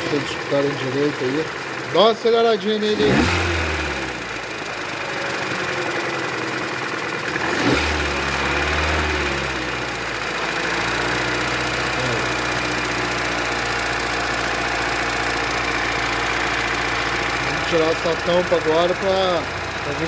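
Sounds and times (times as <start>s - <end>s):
car engine with mechanical knocking: 0.0s - 20.0s.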